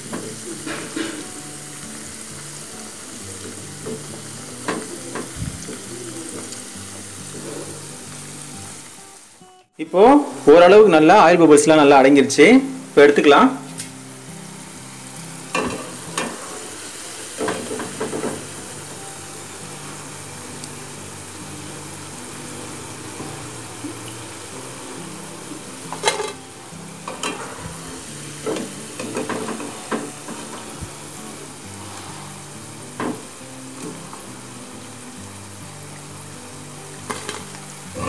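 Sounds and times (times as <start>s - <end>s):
oil sizzling in deep-frying: 0.0s - 38.0s.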